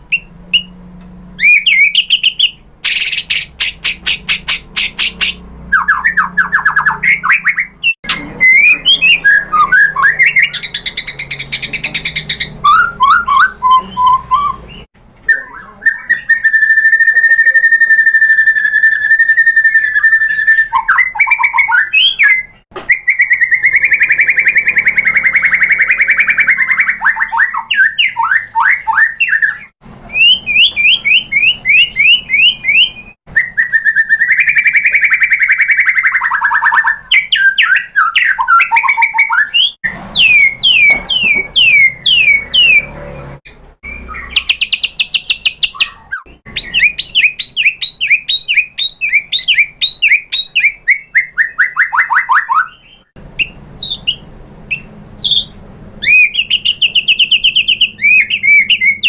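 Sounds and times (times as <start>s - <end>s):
bird singing whistles and trills: 0.1s - 0.8s, 1.4s - 42.9s, 43.8s - 59.0s.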